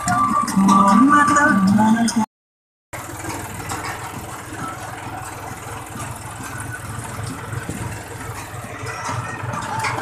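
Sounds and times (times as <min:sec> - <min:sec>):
tractor diesel engine running: 0:00.0 - 0:02.3, 0:02.9 - 0:10.0.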